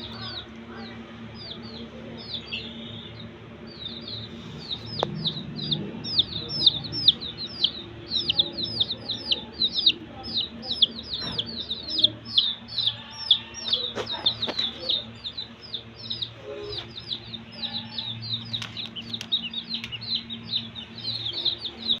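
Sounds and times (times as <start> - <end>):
chicks peeping: 0.0 - 22.0
steady low hum: 0.0 - 22.0.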